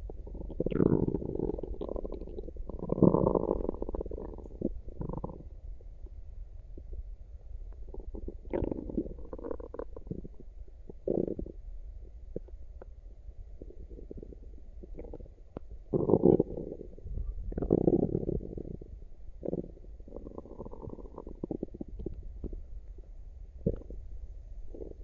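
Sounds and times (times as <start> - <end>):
stomach gurgling: 0.0 - 7.1, 7.7 - 24.1, 24.7 - 25.0
steady low hum: 0.0 - 25.0.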